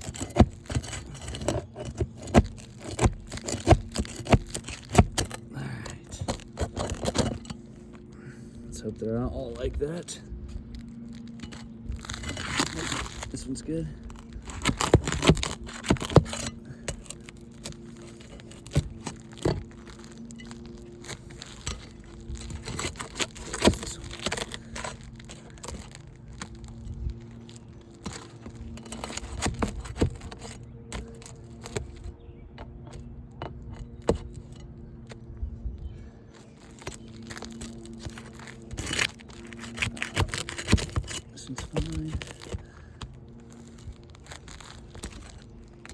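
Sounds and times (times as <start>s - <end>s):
hand tools scraping and knocking: 0.0s - 8.2s, 9.2s - 35.2s, 36.3s - 45.9s.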